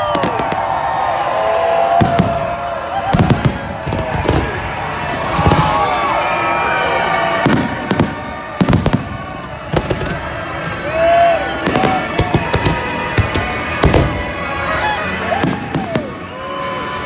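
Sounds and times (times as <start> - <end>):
crowd voices: 0.0 - 17.0
fireworks bangs: 0.0 - 17.0.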